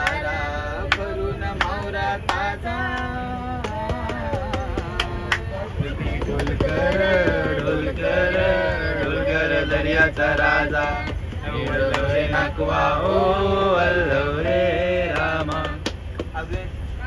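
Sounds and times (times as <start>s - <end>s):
voices singing folk song: 0.0s - 16.1s
train rumbling: 0.0s - 17.0s.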